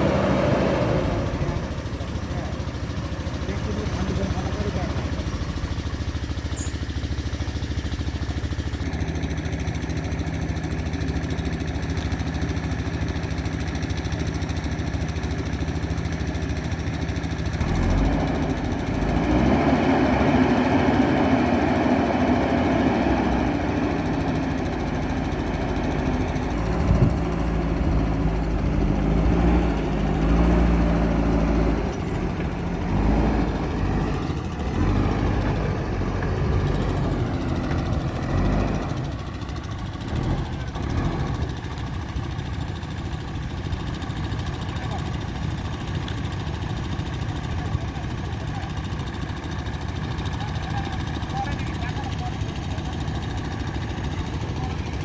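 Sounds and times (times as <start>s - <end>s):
backhoe diesel engine revving: 0.0s - 55.0s.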